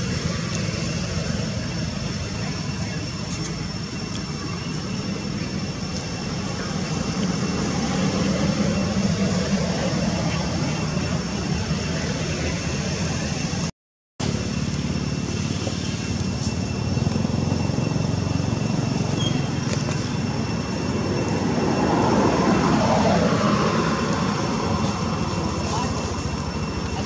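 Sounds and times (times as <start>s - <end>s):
distant engine rumble: 0.0s - 27.0s.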